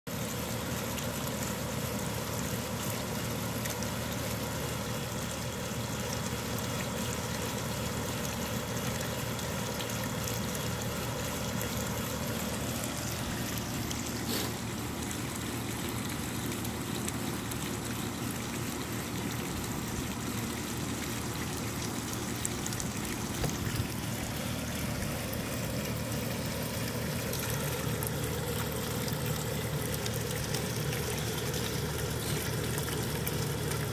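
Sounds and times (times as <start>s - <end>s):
fountain water splashing: 0.1s - 33.9s
low steady hum: 0.1s - 33.9s.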